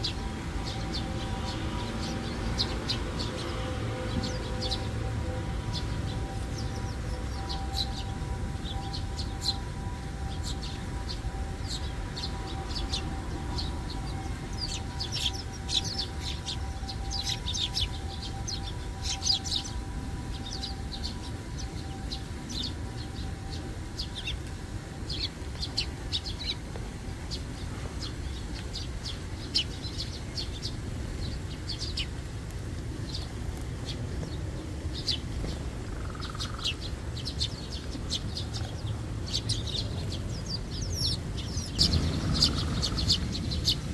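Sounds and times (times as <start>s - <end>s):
sparrows chirping: 0.0s - 43.9s.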